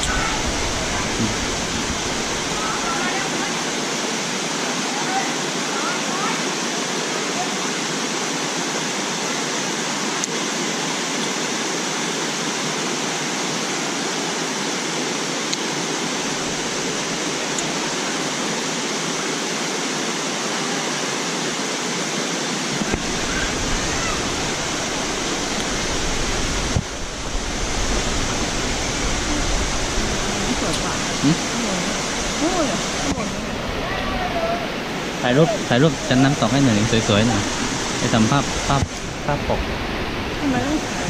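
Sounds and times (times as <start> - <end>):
waterfall rushing and splashing: 0.0 - 41.0.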